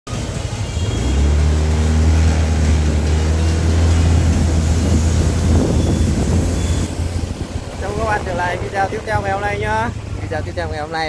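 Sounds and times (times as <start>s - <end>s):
road and wind noise: 0.1s - 11.0s
vehicle engine drone: 0.1s - 11.0s.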